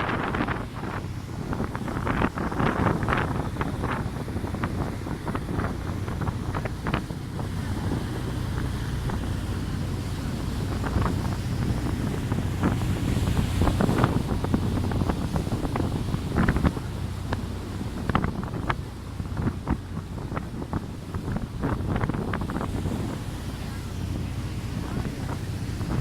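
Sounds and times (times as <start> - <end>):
motorboat engine rumbling: 0.0 - 26.0
rushing water: 0.0 - 26.0
wind buffeting microphone: 0.0 - 26.0.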